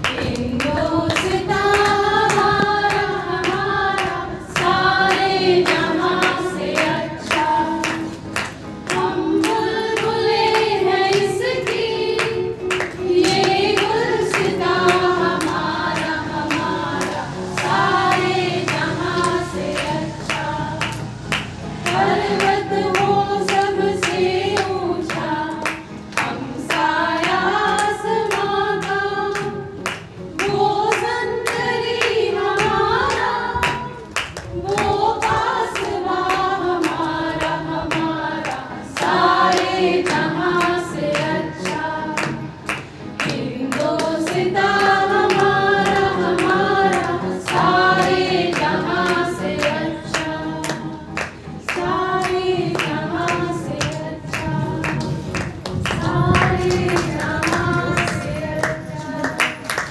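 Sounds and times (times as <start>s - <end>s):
sharp rhythmic taps: 0.0s - 59.9s
women singing in unison: 0.0s - 59.9s.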